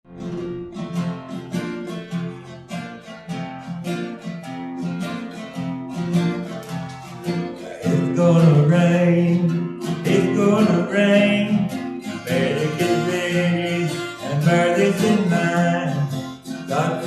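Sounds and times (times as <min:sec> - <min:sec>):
acoustic guitar strumming: 0:00.1 - 0:17.0.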